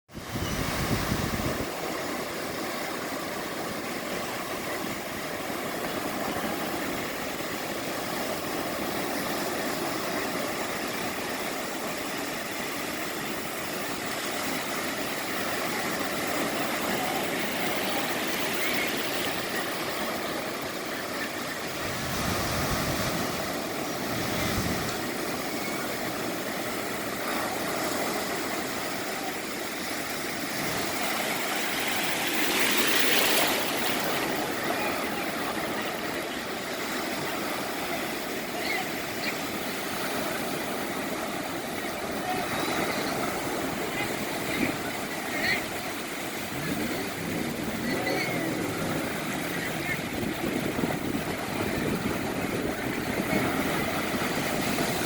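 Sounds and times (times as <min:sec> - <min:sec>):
wind buffeting microphone: 0:00.1 - 0:37.7, 0:39.5 - 0:55.0
ocean surf washing: 0:00.1 - 0:55.0.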